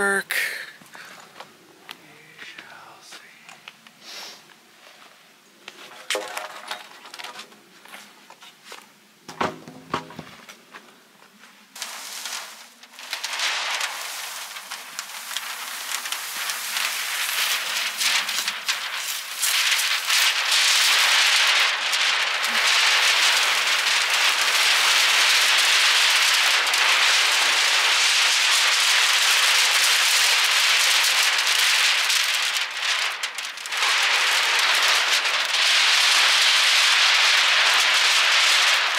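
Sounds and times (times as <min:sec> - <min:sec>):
house wrap crinkling: 0:00.8 - 0:38.9.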